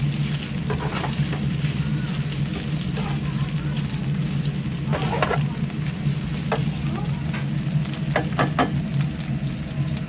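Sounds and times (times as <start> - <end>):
pork sizzling in a pan: 0.0 - 10.0.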